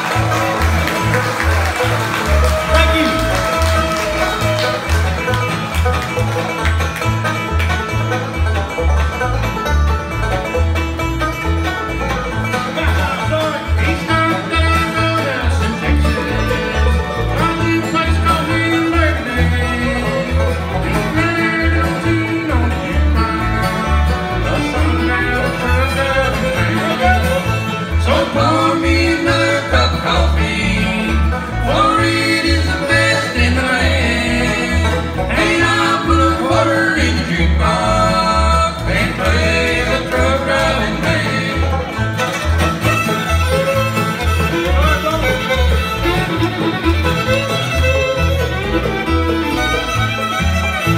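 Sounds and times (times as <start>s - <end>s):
bluegrass band playing: 0.0s - 50.9s.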